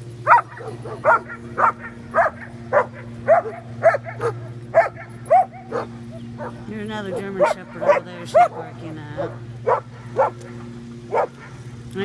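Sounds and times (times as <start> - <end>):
steady low hum: 0.0 - 12.0
dog yipping: 0.2 - 10.5, 11.1 - 11.5.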